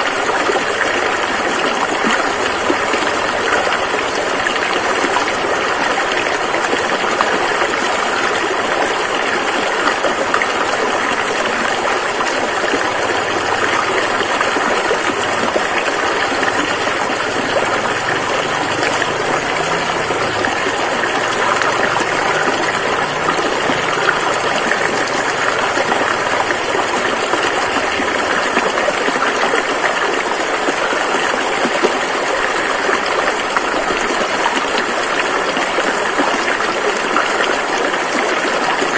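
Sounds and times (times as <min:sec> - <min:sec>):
rushing river: 0:00.0 - 0:38.9.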